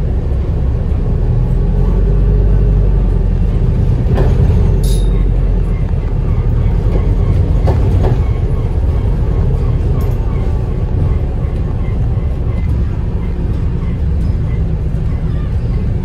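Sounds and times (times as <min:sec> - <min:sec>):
bus drivetrain and road rumble: 0:00.0 - 0:16.0.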